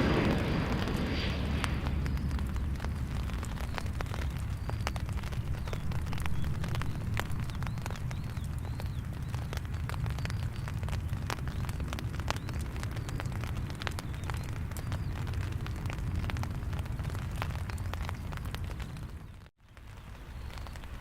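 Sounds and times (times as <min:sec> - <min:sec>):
distant low rumble: 0:00.0 - 0:21.0
raindrops ticking on a surface: 0:01.6 - 0:21.0.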